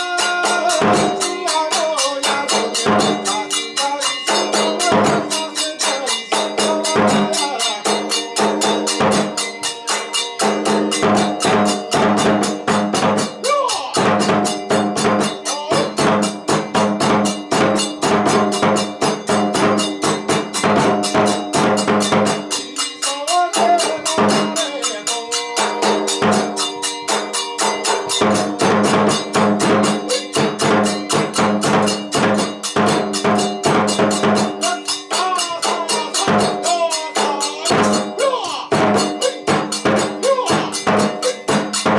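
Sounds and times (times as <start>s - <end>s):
drums and percussion: 0.0s - 41.9s.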